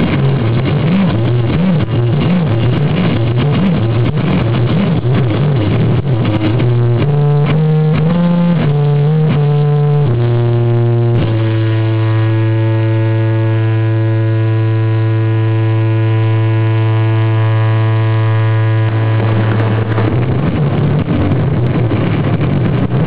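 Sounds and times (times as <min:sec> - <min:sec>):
distorted electric guitar drone: 0:00.0 - 0:23.0.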